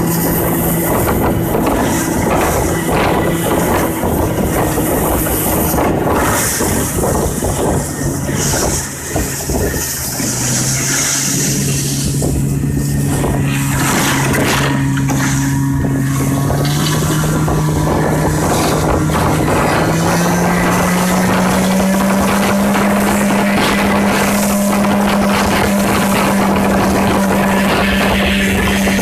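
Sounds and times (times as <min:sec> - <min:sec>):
vehicle engine running: 0:00.0 - 0:29.0
wind noise: 0:00.0 - 0:29.0.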